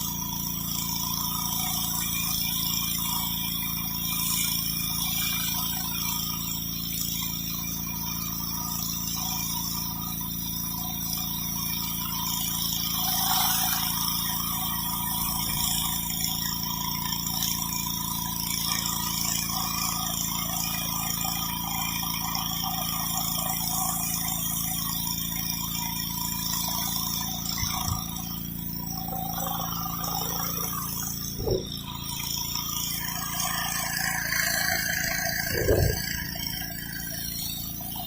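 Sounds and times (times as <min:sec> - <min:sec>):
pressure washer engine running: 0:00.0 - 0:38.0
water spraying on concrete: 0:00.0 - 0:38.0.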